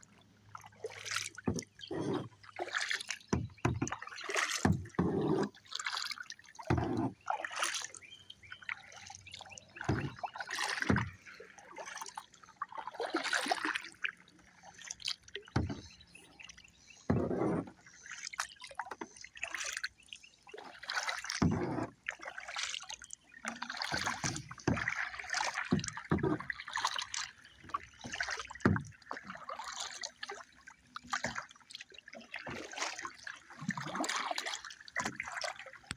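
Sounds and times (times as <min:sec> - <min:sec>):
kayak paddle strokes splashing: 0:00.0 - 0:35.9
water dripping off paddle: 0:00.5 - 0:35.9.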